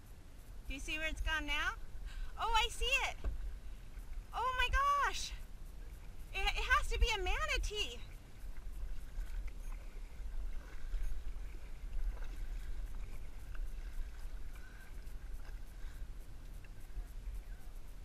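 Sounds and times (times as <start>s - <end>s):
low steady rumble: 0.0s - 18.0s
water lapping against kayak hull: 1.2s - 18.0s
faint splashes: 1.3s - 18.0s.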